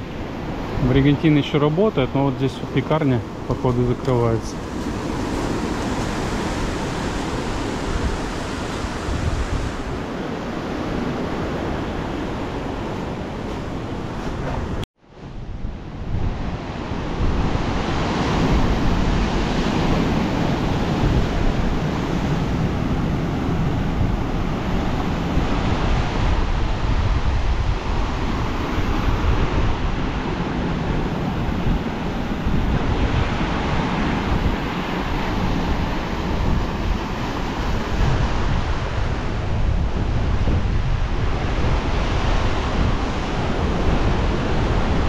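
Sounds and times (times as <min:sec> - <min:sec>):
storm surf breaking: 0:00.0 - 0:45.0
wind buffeting microphone: 0:00.0 - 0:45.0.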